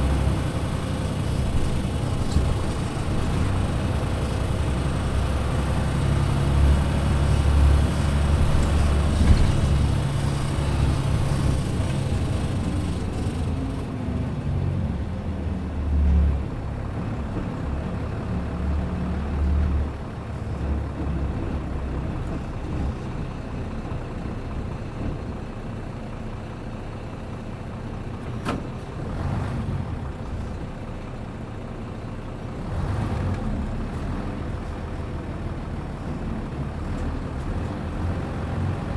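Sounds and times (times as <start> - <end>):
bus engine droning: 0.0 - 38.9.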